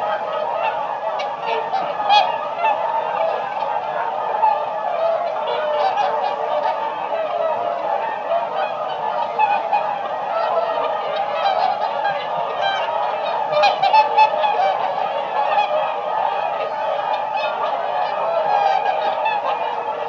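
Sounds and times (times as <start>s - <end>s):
swans honking: 0.0s - 20.0s.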